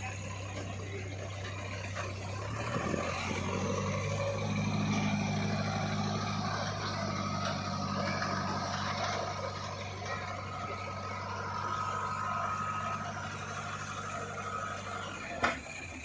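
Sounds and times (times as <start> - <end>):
heavy diesel machinery running: 0.0 - 16.0
second stronger engine: 0.0 - 16.0.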